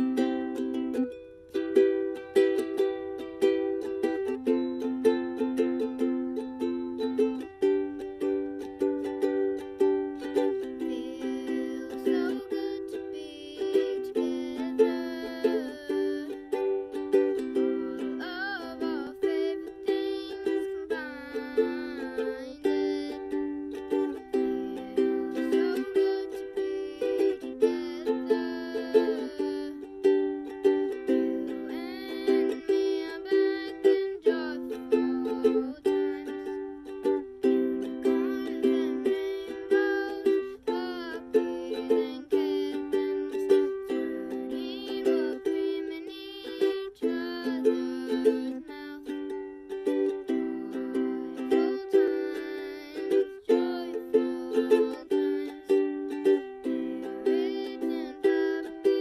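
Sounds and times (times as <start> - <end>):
child singing: 0.0 - 59.0
ukulele strumming: 0.0 - 59.0.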